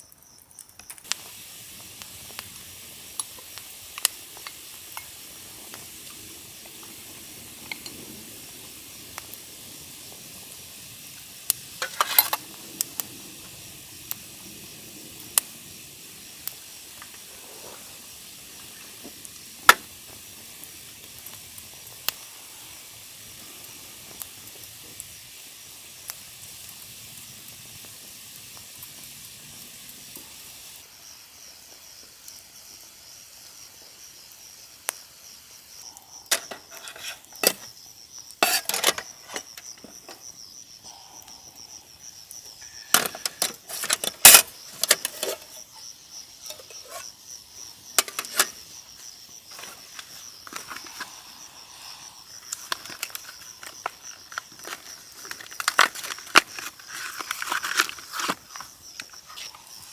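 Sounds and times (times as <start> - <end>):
campfire hissing and popping: 0.0 - 59.9
insects trilling: 0.0 - 59.9.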